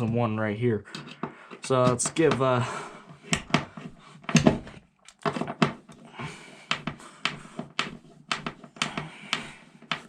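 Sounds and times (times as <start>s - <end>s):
hard objects clicking and knocking: 0.9s - 10.0s.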